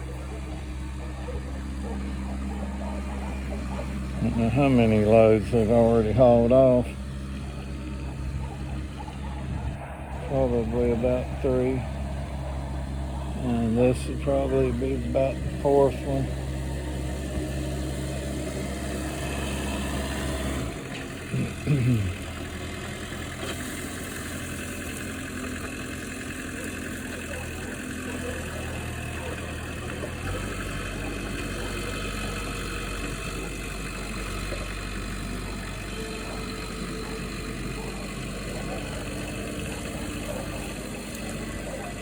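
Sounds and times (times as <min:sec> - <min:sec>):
vehicle engine idling: 0:00.0 - 0:42.0.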